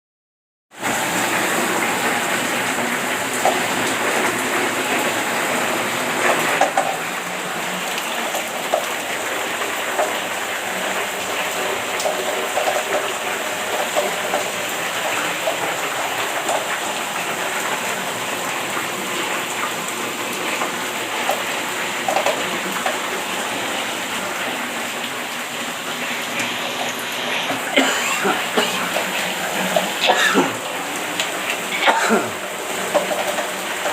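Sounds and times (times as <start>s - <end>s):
heavy rain in strong wind: 0.7s - 33.9s.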